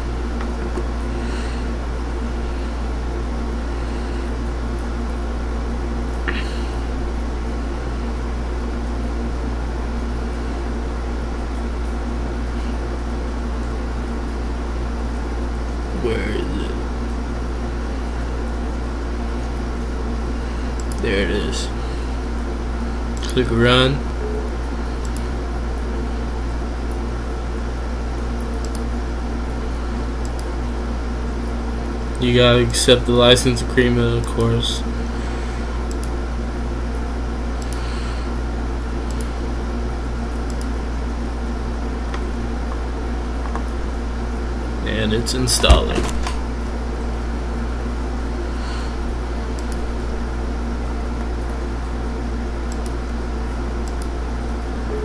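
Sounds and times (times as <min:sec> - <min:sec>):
low hum with hiss: 0:00.0 - 0:55.0.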